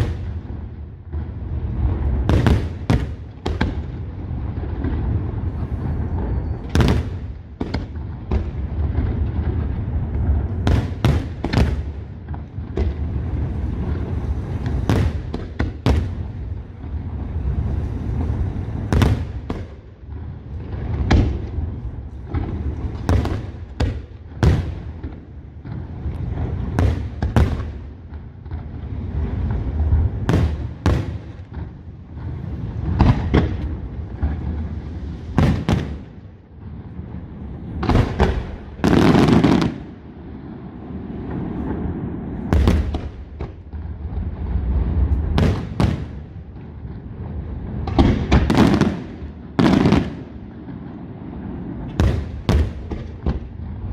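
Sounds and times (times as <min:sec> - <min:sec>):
low rumble and crackle: 0:00.0 - 0:38.9, 0:39.6 - 0:53.9
firework bangs: 0:00.0 - 0:53.9.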